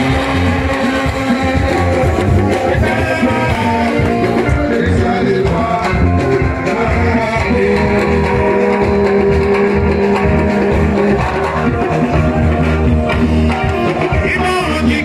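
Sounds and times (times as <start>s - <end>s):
person singing: 0.0s - 12.7s, 13.3s - 15.0s
guitar: 0.0s - 15.0s
steady bass beat: 0.0s - 15.0s.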